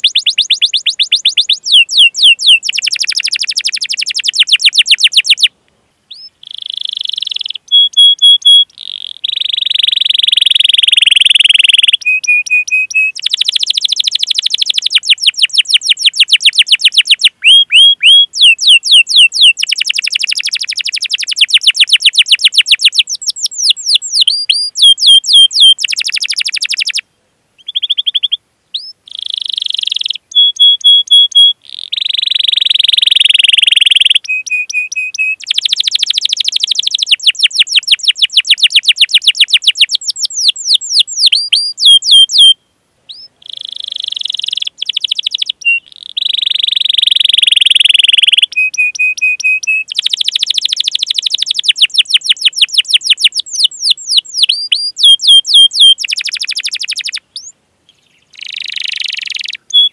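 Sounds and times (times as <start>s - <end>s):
canary singing trills and chirps: 0.0s - 5.5s, 6.1s - 27.0s, 27.6s - 59.9s.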